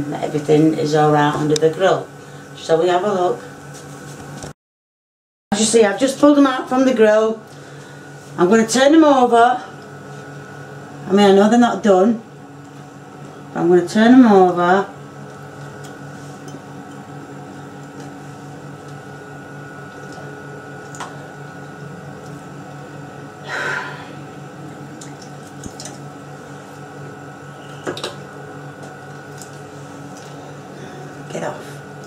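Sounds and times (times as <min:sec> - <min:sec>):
kitchen hum: 0:05.6 - 0:32.0.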